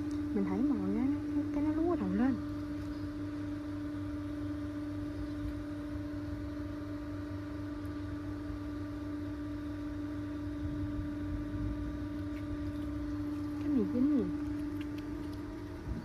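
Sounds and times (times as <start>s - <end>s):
motor humming steadily: 0.0s - 16.0s.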